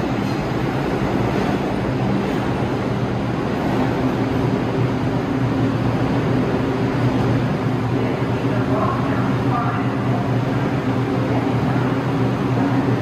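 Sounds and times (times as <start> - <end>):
low humming tones: 0.0 - 13.0
subway train noise: 0.0 - 13.0.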